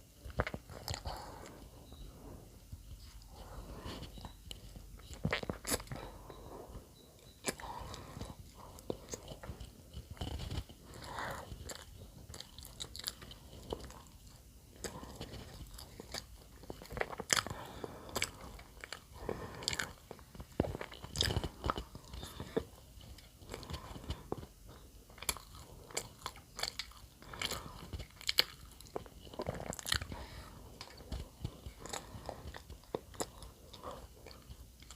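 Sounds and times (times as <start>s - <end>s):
bread being bitten and chewed: 0.0s - 2.0s, 2.7s - 6.6s, 7.2s - 34.9s.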